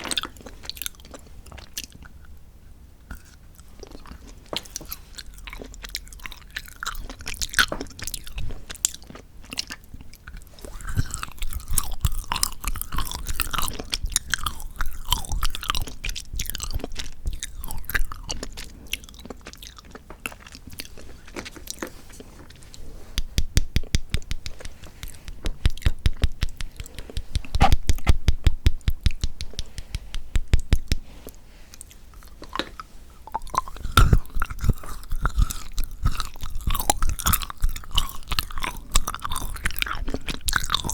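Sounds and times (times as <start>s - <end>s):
chewing and crunching chocolate: 0.0s - 2.4s, 3.0s - 40.9s.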